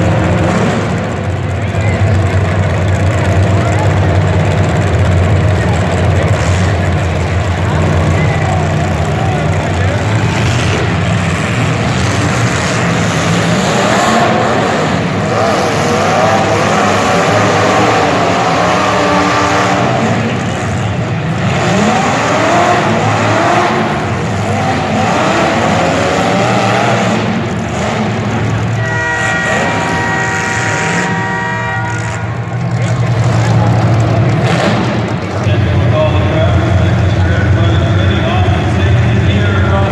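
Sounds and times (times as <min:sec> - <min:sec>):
vehicle engines revving: 0:00.0 - 0:39.9.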